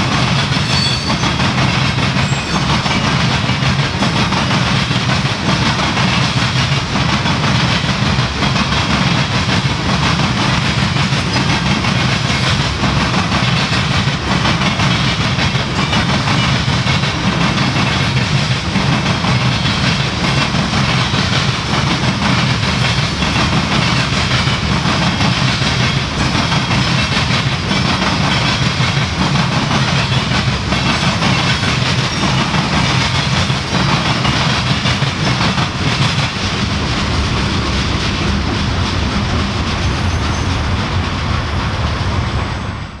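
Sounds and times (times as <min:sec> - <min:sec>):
steel wheels clacking on rails: 0:00.0 - 0:43.0
train rumble: 0:00.0 - 0:43.0.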